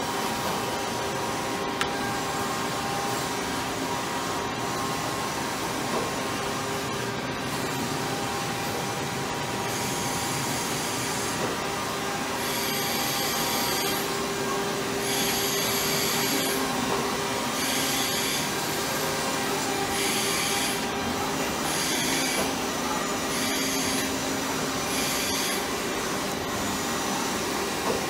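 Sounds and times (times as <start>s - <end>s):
lathe machine hum: 0.9s - 28.0s.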